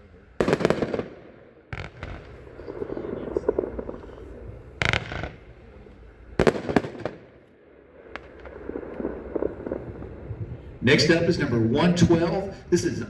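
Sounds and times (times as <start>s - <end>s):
low rumble of aerial fireworks: 0.0s - 13.0s
firework bangs: 0.4s - 12.6s.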